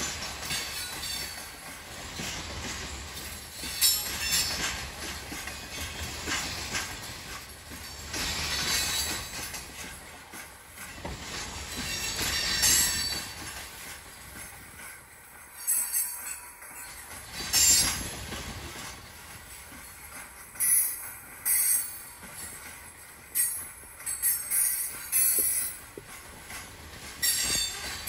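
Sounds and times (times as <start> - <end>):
rail cars rumbling: 0.0 - 28.0.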